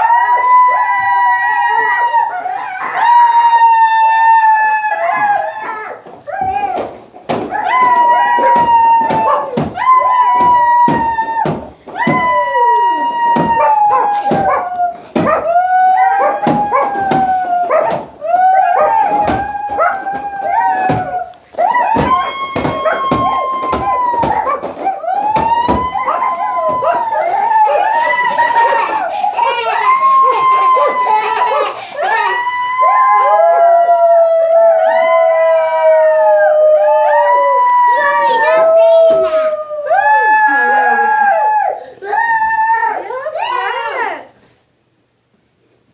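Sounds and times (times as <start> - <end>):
children howling: 0.0 - 44.2.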